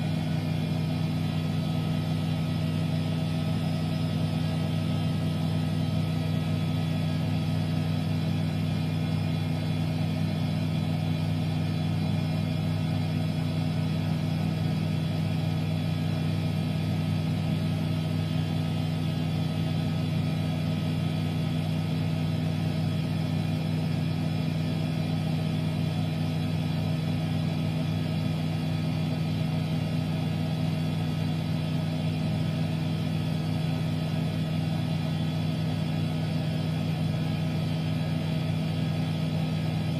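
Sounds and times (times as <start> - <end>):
washing machine hum: 0.0 - 39.9.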